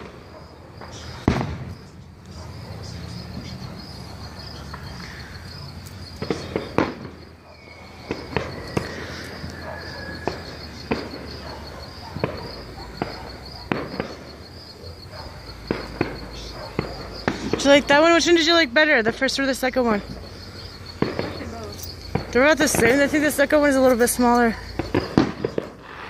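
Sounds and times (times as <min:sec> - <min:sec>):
fireworks bangs: 0:00.0 - 0:26.0
insects chirping: 0:00.0 - 0:26.0.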